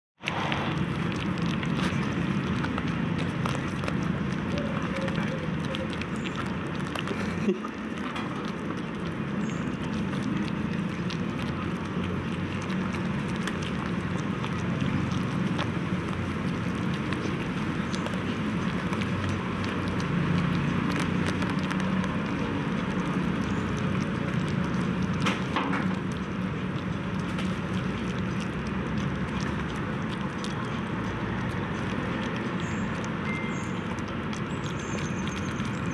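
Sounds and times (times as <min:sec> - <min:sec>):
low background rumble: 0:00.2 - 0:35.9
puppies eating: 0:00.2 - 0:35.9.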